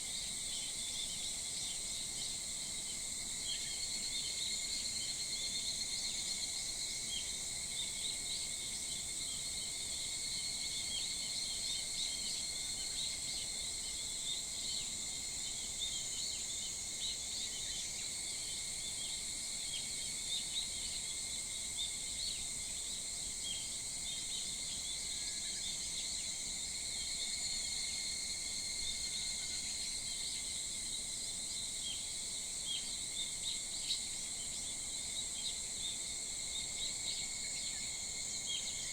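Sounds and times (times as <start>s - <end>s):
insect chirps: 0.0s - 38.9s.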